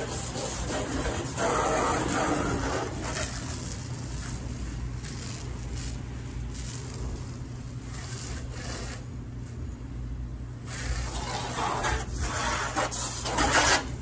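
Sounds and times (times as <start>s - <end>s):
water spraying from hose: 0.0s - 9.7s, 10.6s - 14.0s.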